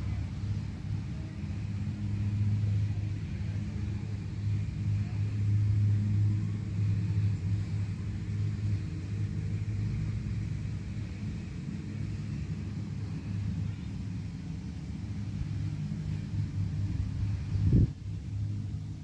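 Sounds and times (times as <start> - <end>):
motor vehicle engine rumbling: 0.0 - 19.0.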